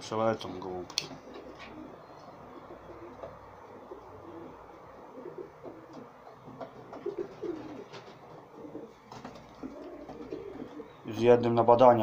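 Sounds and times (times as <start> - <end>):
pigeons cooing: 1.0 - 11.3.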